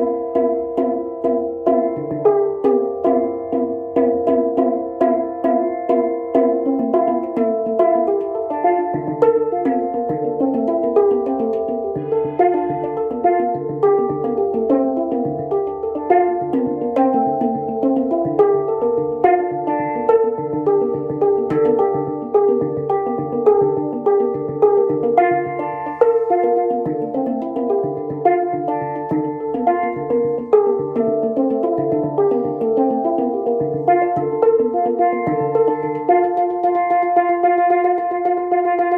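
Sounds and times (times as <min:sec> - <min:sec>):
handpan notes ringing: 0:00.0 - 0:38.9.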